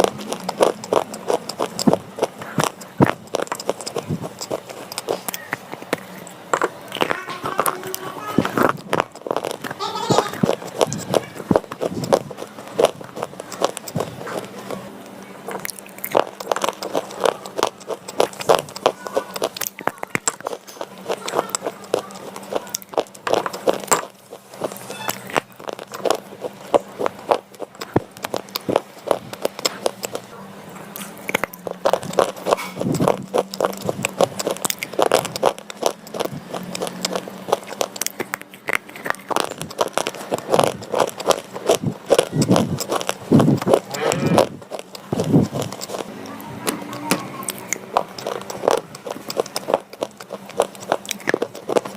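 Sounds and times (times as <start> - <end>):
slate pencils crunching: 0.0 - 51.9.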